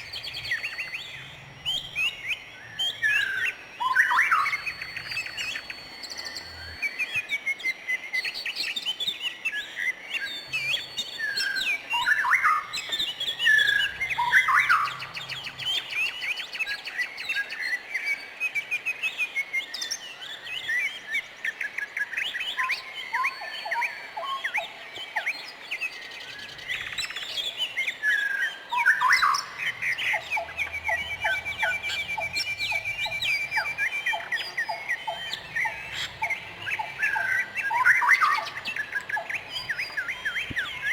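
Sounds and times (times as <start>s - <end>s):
long rapid bird trill: 0.0s - 18.4s, 25.5s - 40.9s
birds singing and chirping: 0.0s - 40.9s.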